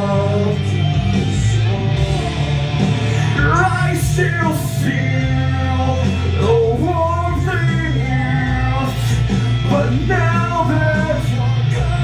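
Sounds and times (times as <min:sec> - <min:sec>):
man singing into microphone: 0:00.0 - 0:12.0
rock backing track: 0:00.0 - 0:12.0.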